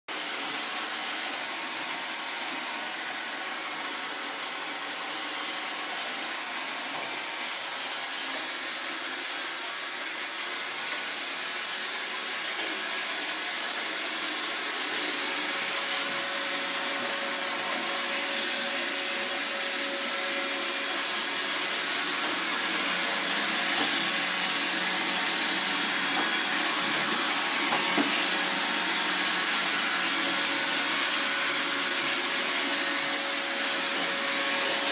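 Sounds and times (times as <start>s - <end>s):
robot vacuum cleaner running: 0.2s - 34.9s.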